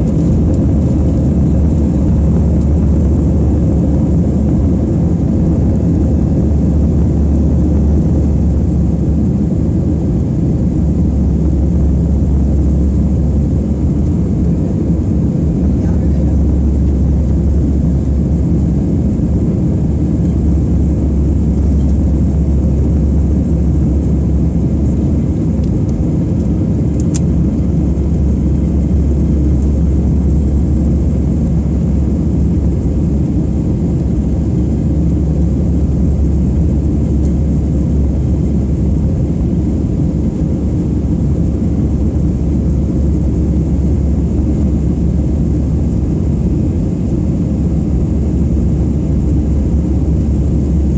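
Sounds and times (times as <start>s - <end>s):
airplane cabin engine roar: 0.0s - 50.9s.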